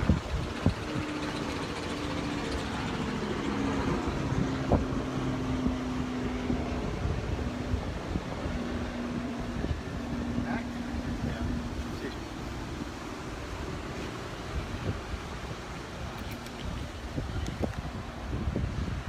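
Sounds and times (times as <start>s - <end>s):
distant motor humming: 0.0s - 19.0s
wind rumble: 0.0s - 19.0s.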